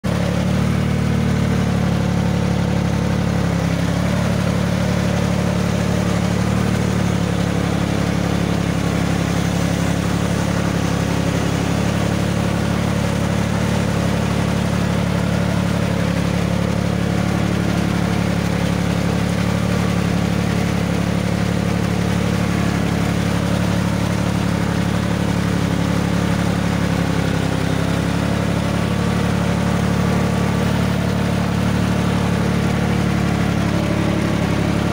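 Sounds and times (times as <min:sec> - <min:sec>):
vehicle engine running steadily: 0:00.0 - 0:34.9.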